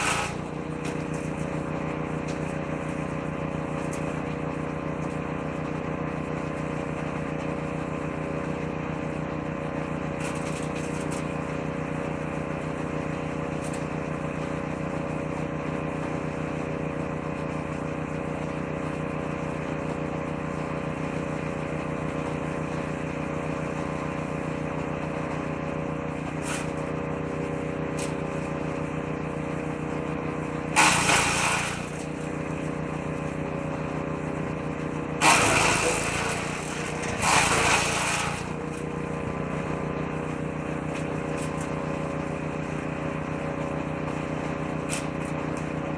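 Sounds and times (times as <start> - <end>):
woodchipper engine running: 0.0 - 45.9
woodchipper shredding branches: 0.0 - 45.9.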